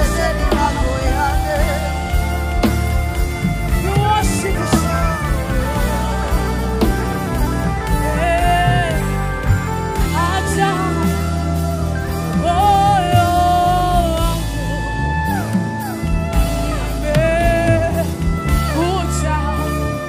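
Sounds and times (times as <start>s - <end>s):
gospel band with drums and cymbals: 0.0s - 20.0s.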